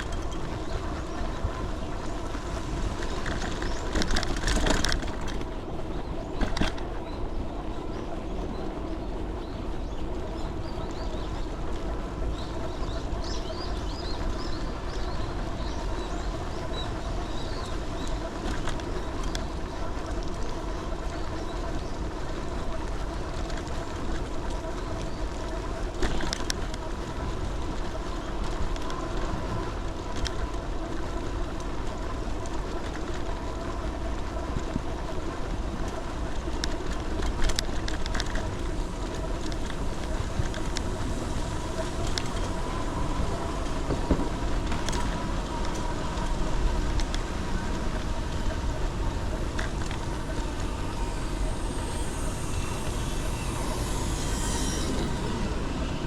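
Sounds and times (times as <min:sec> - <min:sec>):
vehicle engine drone with whine: 0:00.0 - 0:56.0
wind rumble on microphone: 0:00.0 - 0:56.0.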